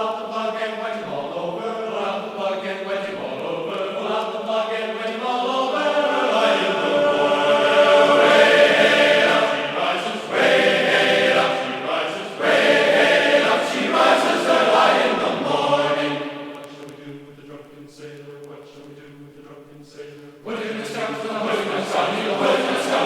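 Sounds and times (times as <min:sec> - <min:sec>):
choir singing held notes: 0:00.0 - 0:23.0.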